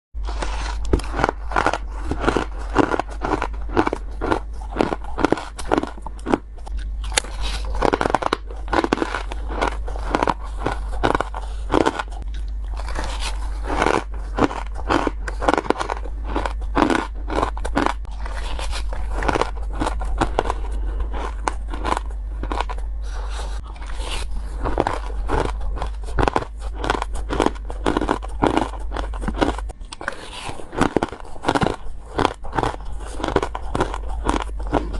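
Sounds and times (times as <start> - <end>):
crushed ice being bitten: 0.2 - 34.9
steady low hum: 0.2 - 34.9.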